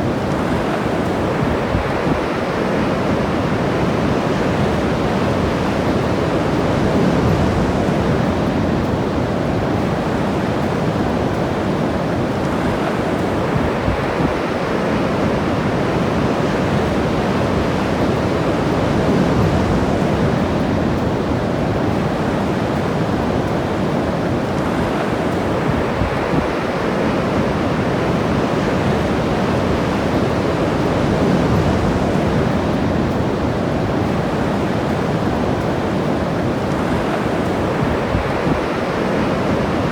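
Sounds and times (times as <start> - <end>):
ocean surf washing ashore: 0.0 - 39.9
wind on microphone: 0.0 - 39.9.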